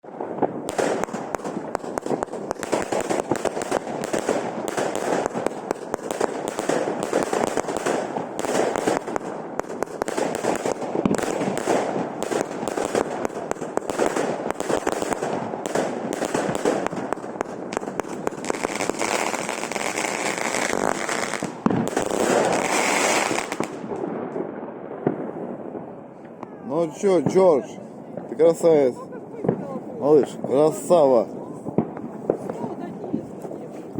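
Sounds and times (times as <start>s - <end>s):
fireworks shots and crackling bursts: 0.0s - 33.9s.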